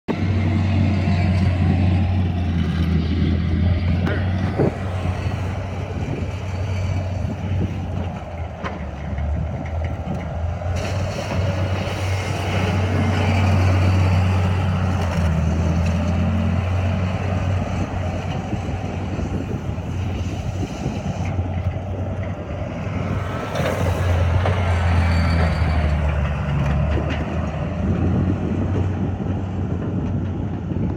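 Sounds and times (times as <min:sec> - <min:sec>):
diesel engine running: 0:00.1 - 0:30.9.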